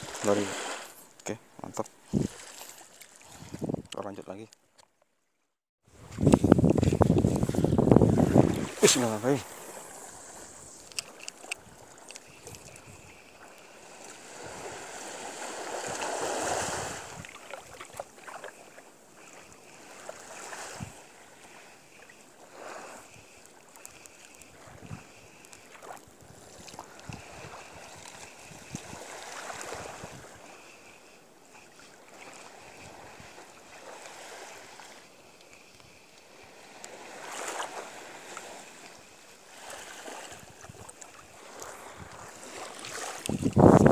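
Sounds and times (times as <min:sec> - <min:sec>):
wind gusts: 0:00.0 - 0:04.2, 0:05.8 - 0:30.9, 0:31.5 - 0:43.9
water noise: 0:00.0 - 0:43.9.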